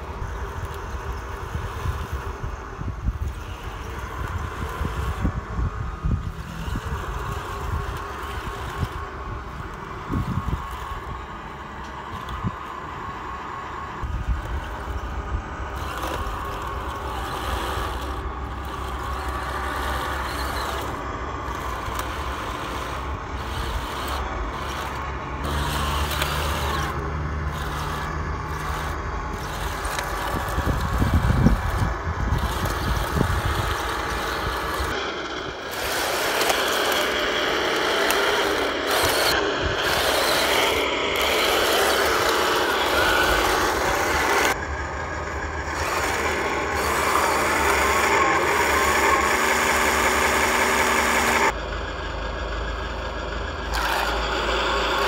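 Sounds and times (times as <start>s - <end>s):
toy tank tracks clattering over stones: 0.0s - 5.4s, 6.2s - 12.8s, 14.0s - 44.6s, 45.7s - 51.6s
small gearbox motors whirring: 0.0s - 51.6s, 53.7s - 55.0s.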